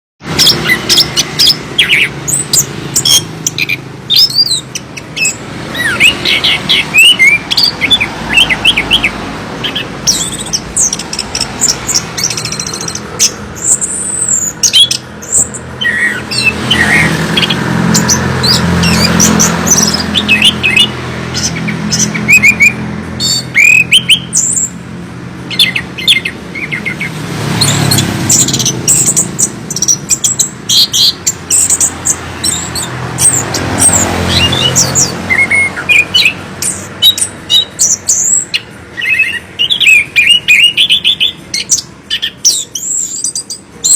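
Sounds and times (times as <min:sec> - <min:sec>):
thrush singing: 0:00.2 - 0:43.9.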